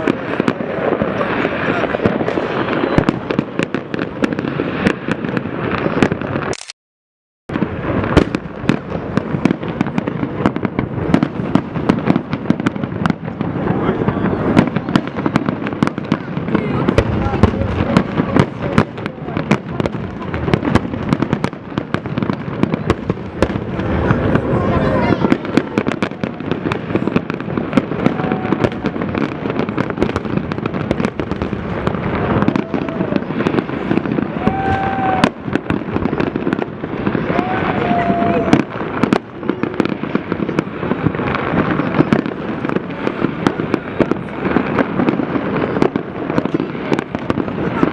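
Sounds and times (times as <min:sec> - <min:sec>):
fireworks bangs and booms: 0:00.0 - 0:06.5, 0:07.5 - 0:47.9
fireworks crackling: 0:00.0 - 0:06.7, 0:07.5 - 0:47.9.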